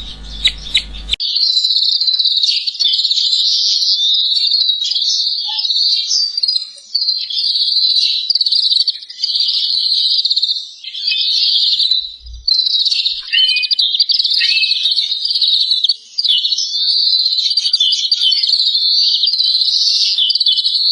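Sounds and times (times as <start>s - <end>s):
songbird trilling: 0.0s - 20.9s.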